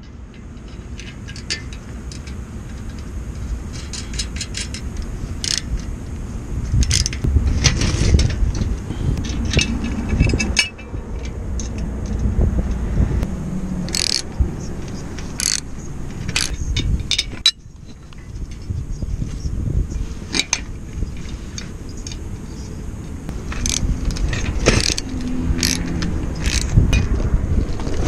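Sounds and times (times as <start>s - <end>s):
metal brackets clinking: 0.0s - 12.8s, 13.8s - 28.0s
wind rumble on microphone: 0.0s - 28.0s.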